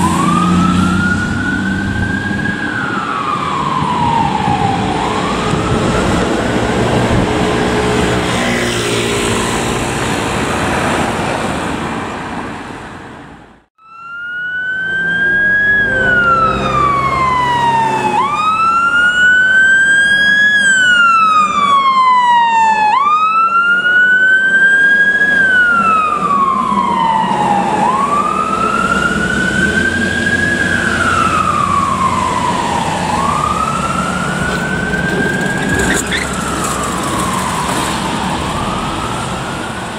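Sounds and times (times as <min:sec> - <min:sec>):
fire engine siren wailing: 0:00.0 - 0:10.0, 0:13.8 - 0:39.9
fire engine engine noise: 0:00.0 - 0:39.9.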